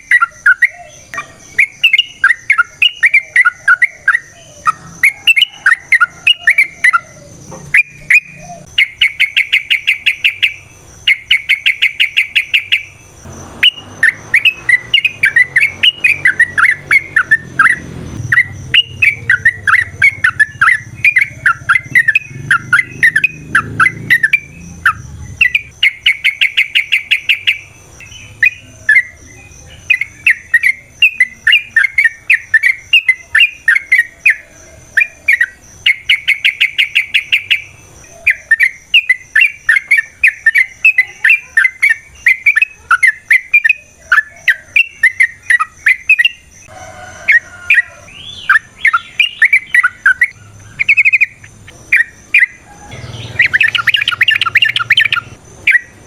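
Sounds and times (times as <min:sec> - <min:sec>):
bird chattering song: 0:00.0 - 0:46.7, 0:47.3 - 0:56.0
rapid bird trills: 0:00.0 - 0:56.0.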